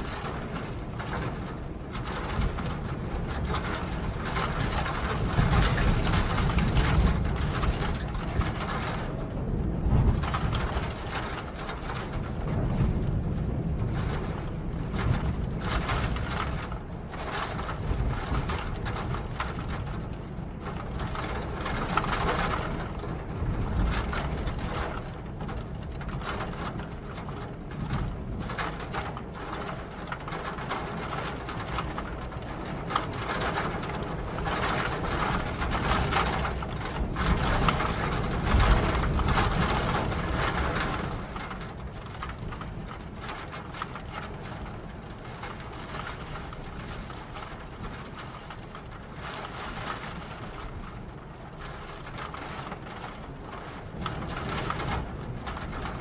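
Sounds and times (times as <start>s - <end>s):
steady rain on a surface: 0.0s - 56.0s.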